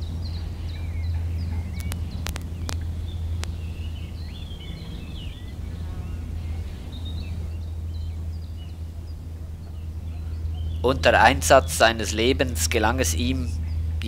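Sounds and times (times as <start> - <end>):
birds chirping: 0.0 - 14.0
film soundtrack hum and hiss: 0.0 - 14.0.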